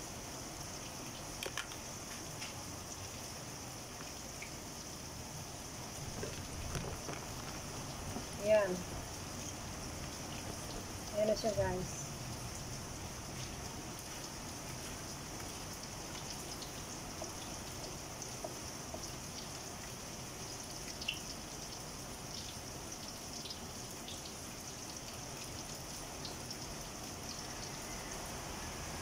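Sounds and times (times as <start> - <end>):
food frying in oil: 0.0 - 29.0
rain falling: 0.0 - 29.0.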